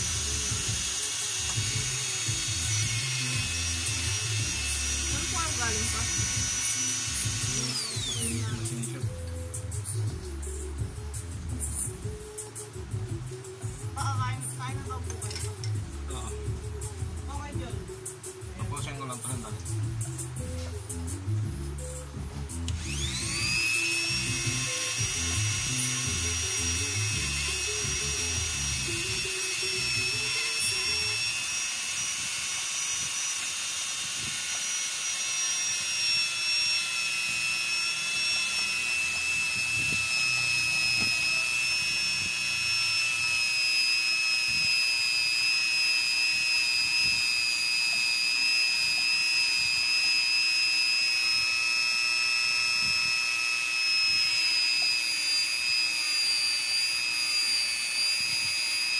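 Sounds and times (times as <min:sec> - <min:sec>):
rotary tool grinding with high whine: 0:00.0 - 0:58.9.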